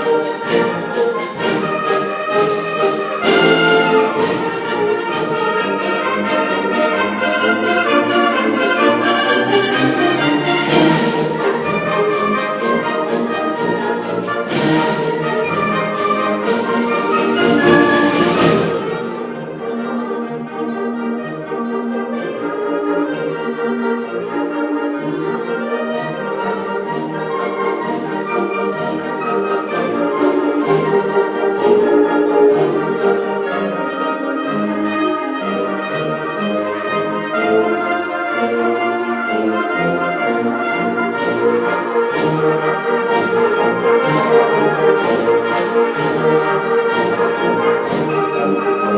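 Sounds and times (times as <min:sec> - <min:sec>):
brass-led orchestral music: 0:00.0 - 0:48.9.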